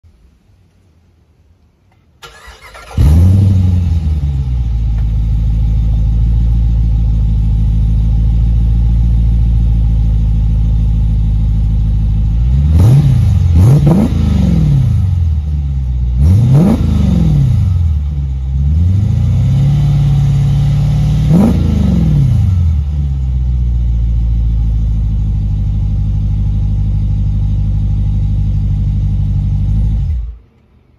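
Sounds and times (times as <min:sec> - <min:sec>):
engine idling and revving: 0:02.2 - 0:30.6.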